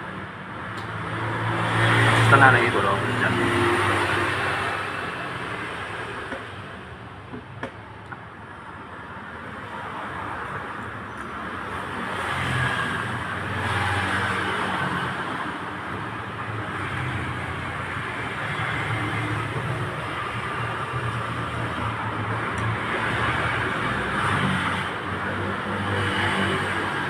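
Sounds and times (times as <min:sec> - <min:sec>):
road traffic noise: 0:00.0 - 0:27.0.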